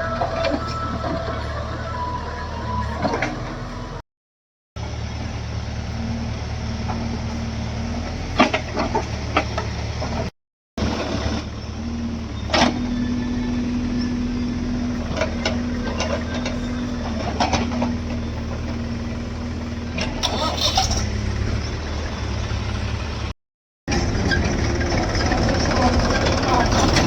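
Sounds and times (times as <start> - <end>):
diesel machinery droning: 0.0 - 4.0, 4.8 - 27.0.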